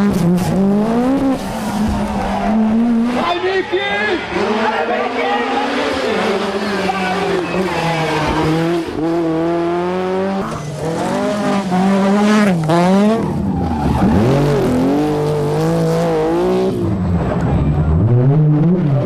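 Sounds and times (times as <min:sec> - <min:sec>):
car engine revving: 0:00.0 - 0:19.0
tyre and road noise: 0:00.0 - 0:19.0.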